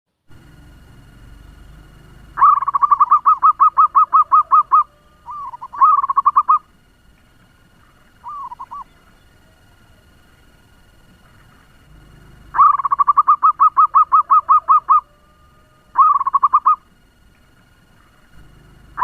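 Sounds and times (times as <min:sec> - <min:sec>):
dove cooing: 0:00.4 - 0:16.9, 0:17.5 - 0:19.0.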